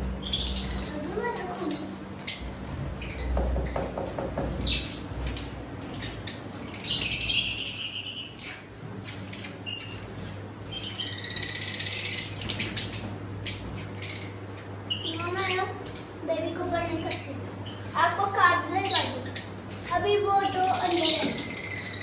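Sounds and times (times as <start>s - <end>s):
birds chirping: 0.0s - 22.0s
rapid bird chattering: 0.1s - 22.0s.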